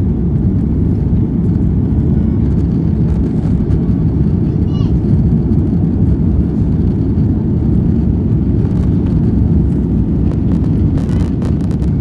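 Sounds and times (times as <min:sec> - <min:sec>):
jet engines rumbling: 0:00.0 - 0:12.0
rushing air: 0:00.0 - 0:12.0.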